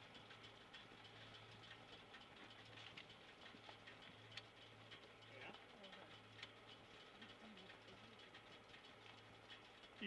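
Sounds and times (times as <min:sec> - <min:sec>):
faint ticks: 0:00.0 - 0:10.0.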